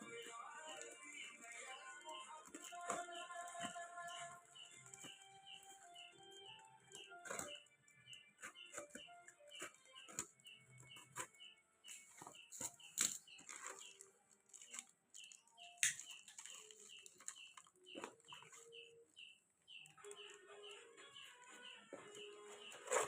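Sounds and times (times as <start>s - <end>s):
canary chirping: 0.0s - 23.0s.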